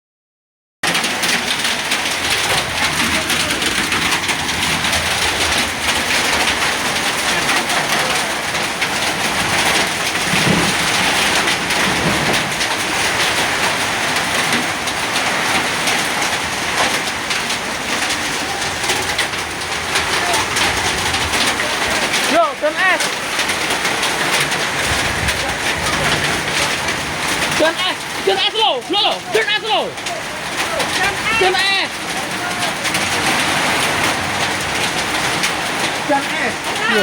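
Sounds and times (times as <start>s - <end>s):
hail and heavy rain hitting surfaces: 0.8s - 37.0s.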